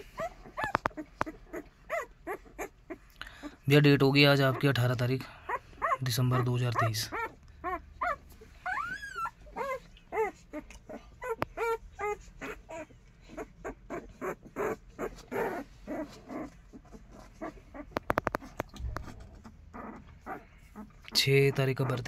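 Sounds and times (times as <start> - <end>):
puppies whimpering and squealing: 0.0 - 22.0.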